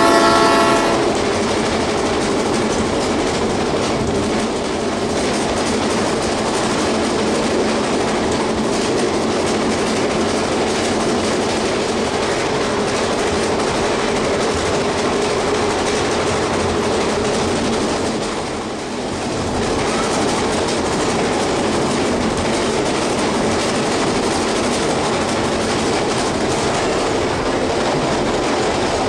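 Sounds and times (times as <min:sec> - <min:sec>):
train wheels on track: 0:00.0 - 0:29.0.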